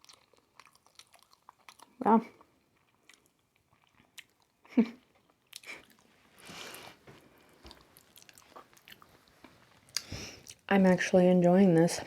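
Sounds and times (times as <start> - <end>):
person chewing wetly: 0.0 - 10.7.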